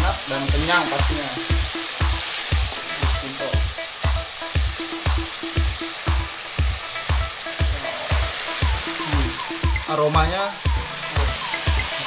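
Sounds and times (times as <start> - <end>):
eggs sizzling in a frying pan: 0.0 - 12.0
music with thumping beat: 0.0 - 12.0.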